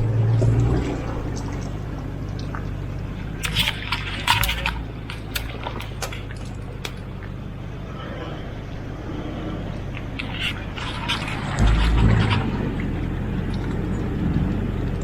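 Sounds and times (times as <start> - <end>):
water sloshing and splashing: 0.0 - 7.8, 9.3 - 15.0
car engine running at low revs: 0.0 - 15.0.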